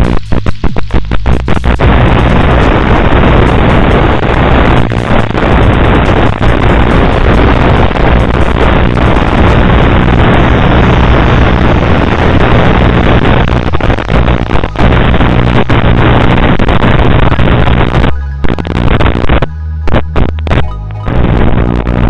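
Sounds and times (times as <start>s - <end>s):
loud distorted rushing noise: 0.0s - 19.4s
steady low hum: 0.0s - 20.4s.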